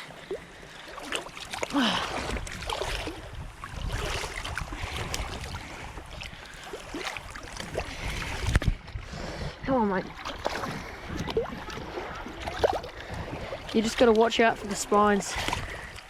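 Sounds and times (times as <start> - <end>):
wind rumbling on microphone: 1.7 - 16.0.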